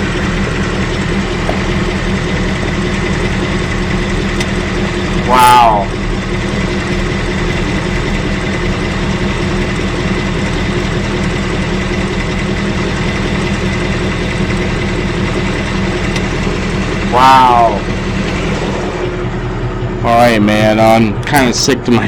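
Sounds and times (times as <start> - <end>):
car engine idling: 0.0 - 22.0
engine ticking: 0.0 - 22.0.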